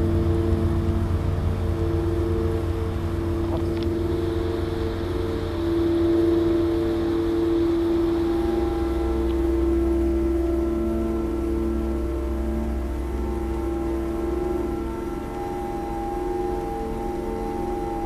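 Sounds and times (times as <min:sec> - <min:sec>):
ambient music drone chords: 0:00.0 - 0:18.0
high held notes: 0:00.0 - 0:18.0.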